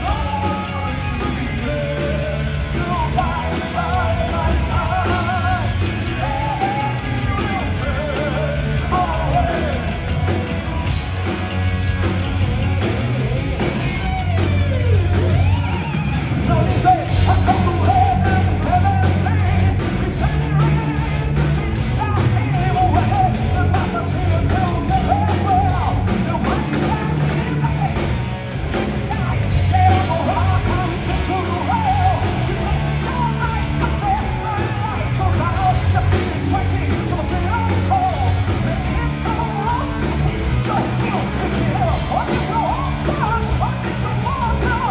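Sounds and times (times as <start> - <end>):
person singing and yelling: 0.0 - 10.2, 14.8 - 44.9
heavy metal band playing: 0.0 - 44.9.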